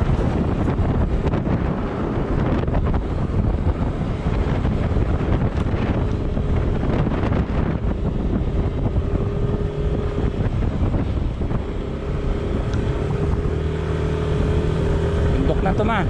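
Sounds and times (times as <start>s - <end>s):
vehicle engine rumbling: 0.0s - 16.0s
wind buffeting microphone: 0.0s - 16.0s.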